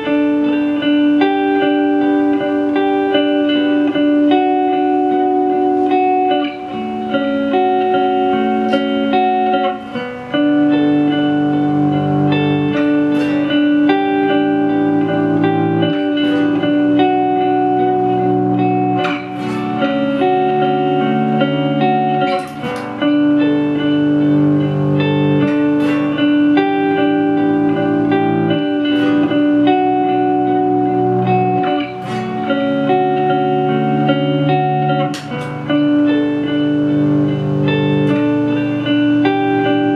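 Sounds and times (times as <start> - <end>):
ambient electric guitar: 0.0 - 39.9
looped bass notes: 0.0 - 39.9.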